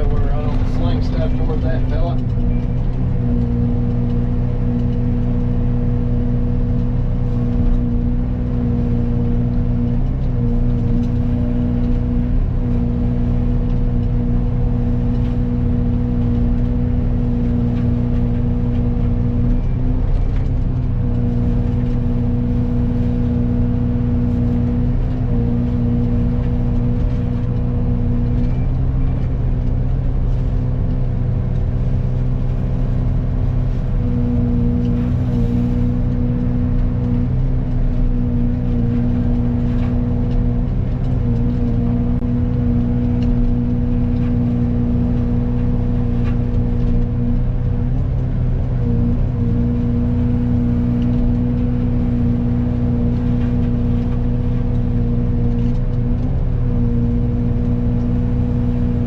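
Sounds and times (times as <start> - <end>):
excavator engine drone: 0.0 - 59.0
mulcher whine: 0.0 - 59.0.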